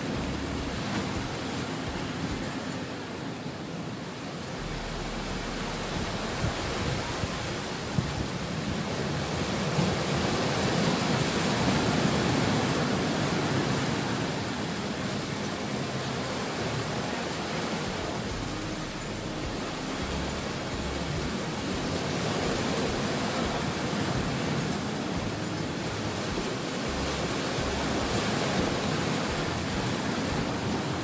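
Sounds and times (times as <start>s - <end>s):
sea surf washing ashore: 0.0s - 31.0s.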